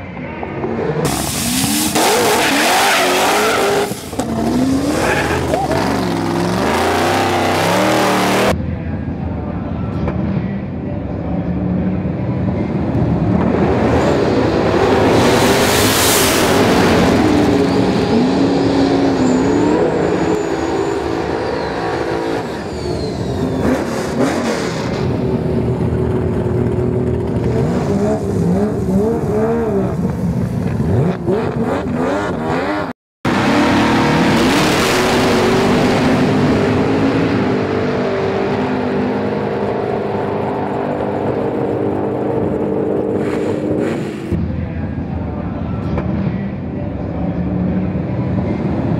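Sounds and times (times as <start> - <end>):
race car engines revving: 0.0 - 9.2, 9.9 - 48.9.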